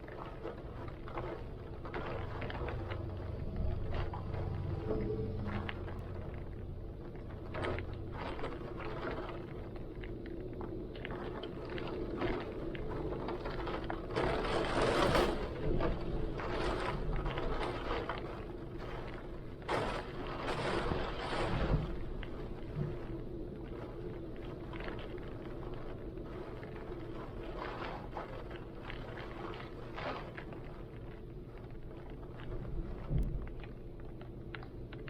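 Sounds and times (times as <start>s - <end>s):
rain: 0.0s - 35.0s.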